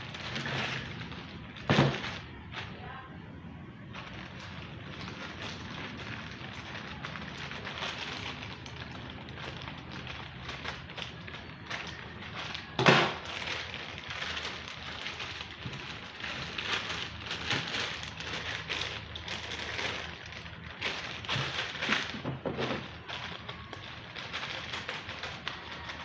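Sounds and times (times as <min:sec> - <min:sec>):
packaging crinkling and rustling: 0:00.0 - 0:02.9, 0:03.8 - 0:26.0.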